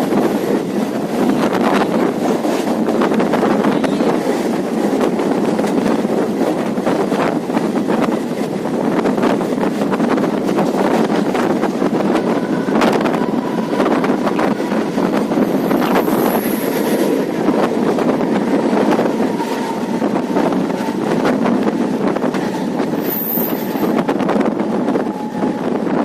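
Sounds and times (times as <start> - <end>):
train wheels rumbling on rails: 0.0 - 26.0
wind buffeting microphone: 0.0 - 26.0.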